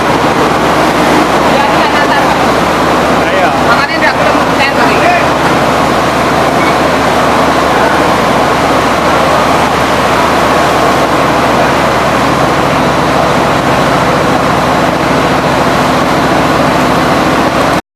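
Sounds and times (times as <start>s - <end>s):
crushing mill machinery running: 0.0s - 17.8s.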